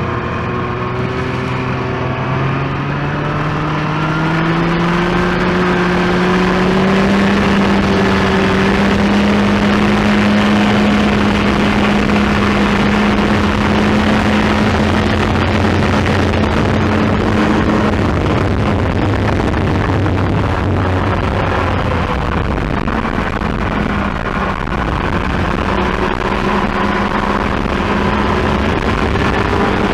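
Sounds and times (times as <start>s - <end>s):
snowmobile engine under throttle: 0.0s - 29.9s
steady rush of noise: 0.0s - 29.9s.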